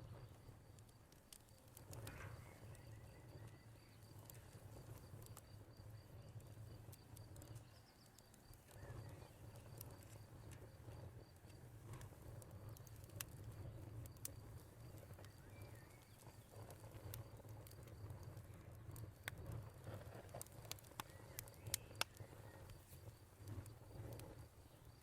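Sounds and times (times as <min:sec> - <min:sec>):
cricket chirping: 0:00.0 - 0:25.0
wood fire crackling and popping: 0:00.0 - 0:25.0.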